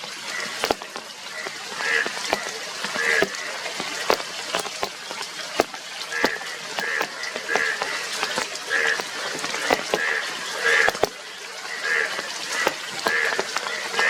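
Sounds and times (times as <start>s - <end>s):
bullfrogs croaking: 0.1s - 14.0s.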